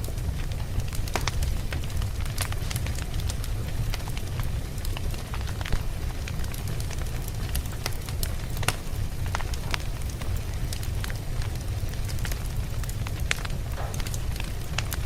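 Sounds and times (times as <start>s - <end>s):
burning wood crackling: 0.0s - 15.0s
campfire flames rumbling: 0.0s - 15.0s.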